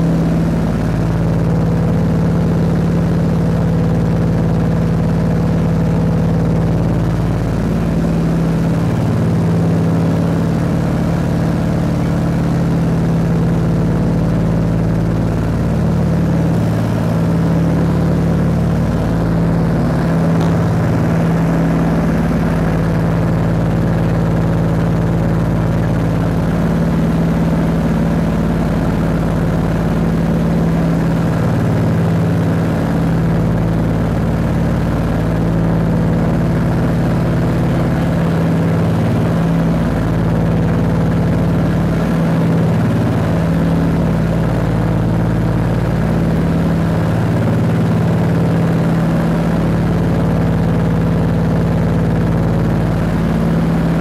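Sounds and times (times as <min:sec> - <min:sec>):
propeller engines droning: 0:00.0 - 0:54.0.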